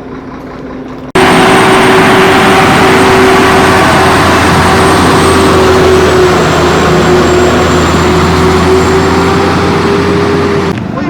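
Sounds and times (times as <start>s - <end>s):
vehicle engine and road noise: 0.0s - 11.0s
steady whine: 1.2s - 10.8s.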